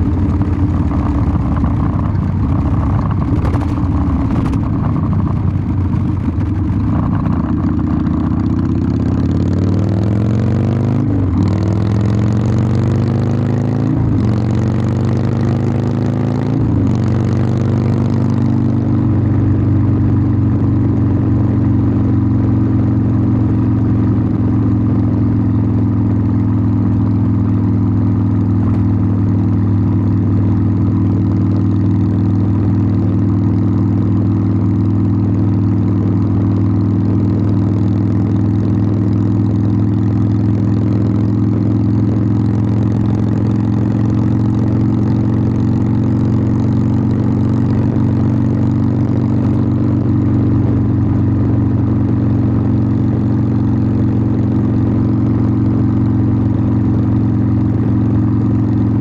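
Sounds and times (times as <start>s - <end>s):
motorcycle exhaust accelerating: 0.0s - 59.0s.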